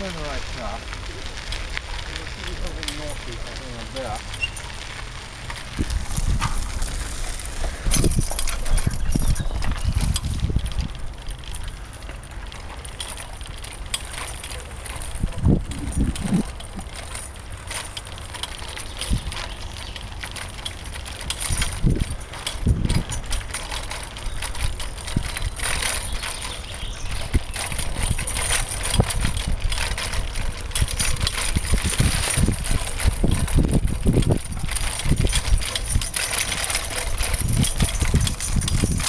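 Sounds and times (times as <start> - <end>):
bicycle rattling over rough ground: 0.0 - 39.0.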